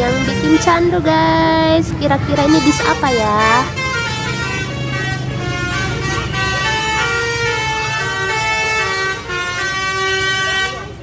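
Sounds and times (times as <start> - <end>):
musical air horn tune: 0.0 - 1.0, 2.2 - 11.0.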